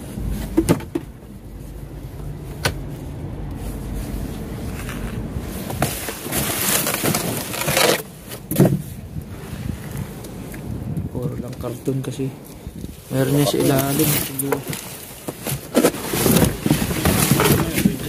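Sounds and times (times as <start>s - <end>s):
rustling of cardboard and plastic: 0.0s - 10.6s, 11.4s - 18.0s
steady low rumble: 0.0s - 15.6s.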